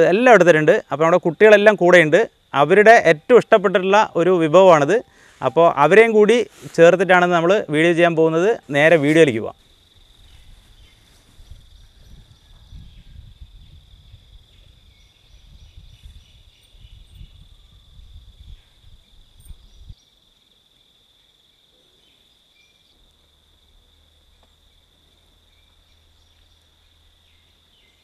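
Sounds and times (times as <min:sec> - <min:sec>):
insect chirring: 0:00.0 - 0:28.0.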